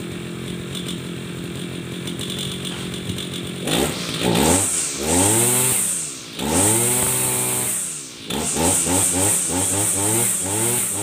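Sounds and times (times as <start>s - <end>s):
brush cutter engine revving: 0.1s - 11.0s.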